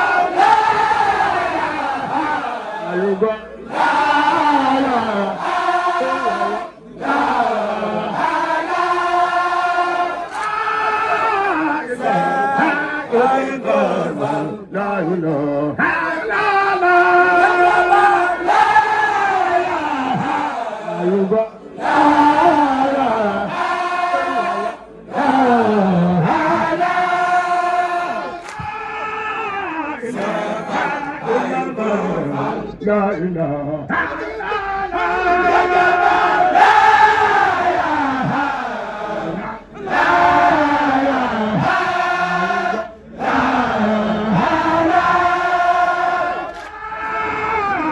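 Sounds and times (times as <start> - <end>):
men chanting together: 0.0 - 32.8, 33.9 - 47.9.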